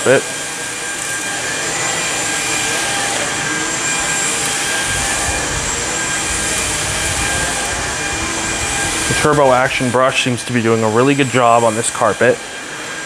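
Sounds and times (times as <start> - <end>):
vacuum cleaner on carpet: 0.0 - 13.0.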